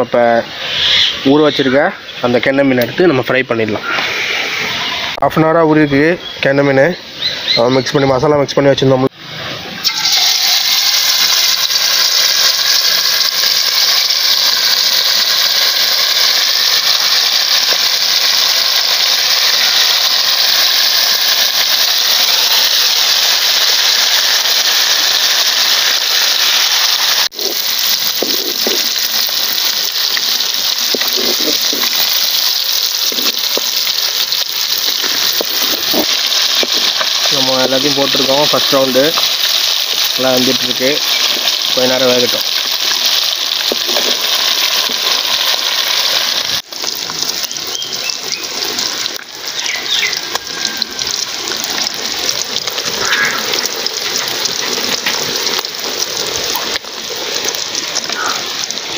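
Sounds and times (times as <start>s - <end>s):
fish deep-frying in oil: 9.8s - 58.9s.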